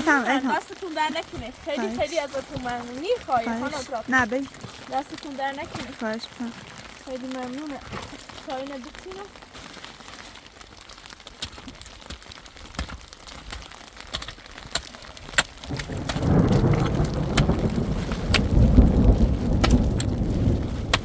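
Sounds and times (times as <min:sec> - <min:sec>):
raindrops ticking on hard surface: 0:00.0 - 0:21.0.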